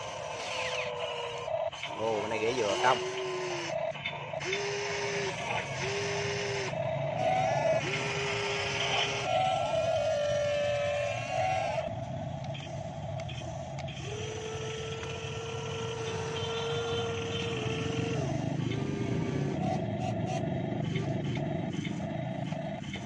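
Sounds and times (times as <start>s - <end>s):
model excavator electric motor whine: 0.0s - 23.0s.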